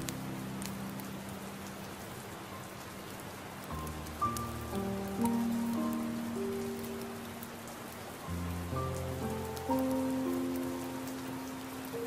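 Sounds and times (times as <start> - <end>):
rain pattering: 0.0 - 12.0
soft piano notes: 0.0 - 12.0.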